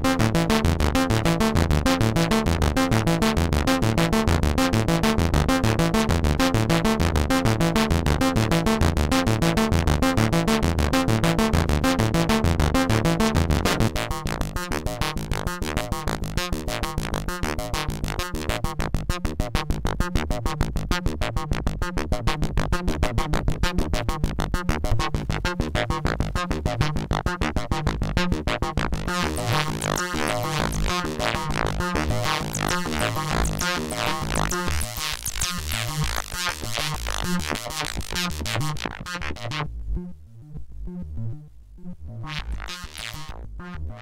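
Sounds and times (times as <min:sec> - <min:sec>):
synthesizer pulsed pattern: 0:00.0 - 0:44.0.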